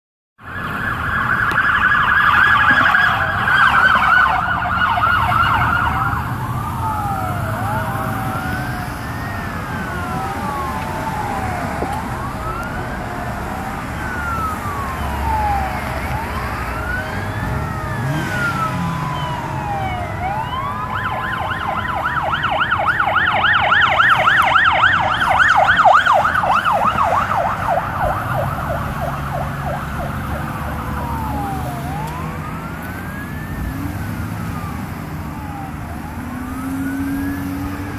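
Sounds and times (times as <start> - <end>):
emergency vehicle sirens: 0.4 - 37.9
road traffic rumble: 0.4 - 37.9.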